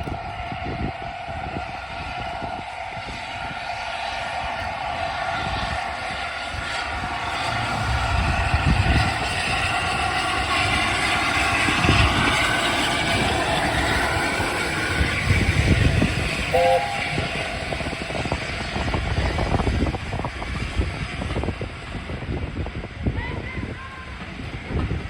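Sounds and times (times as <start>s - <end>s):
steam train running by: 0.1s - 25.0s.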